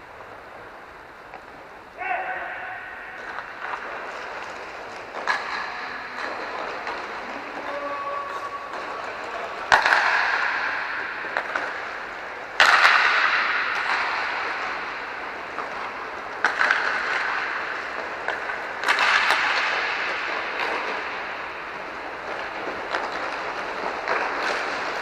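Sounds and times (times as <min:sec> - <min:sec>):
inline skate wheels rolling: 0:00.0 - 0:02.0, 0:03.0 - 0:25.0
hockey stick hitting puck: 0:01.3 - 0:25.0.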